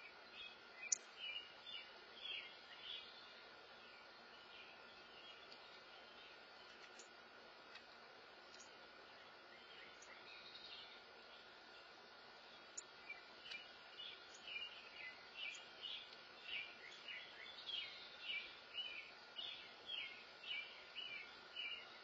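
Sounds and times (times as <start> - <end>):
small songbird chirping: 0.0 - 22.0.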